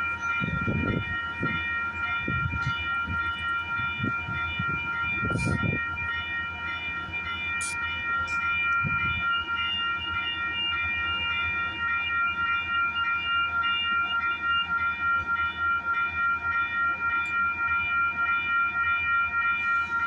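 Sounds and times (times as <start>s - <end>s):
train high-pitched whine: 0.0s - 20.0s.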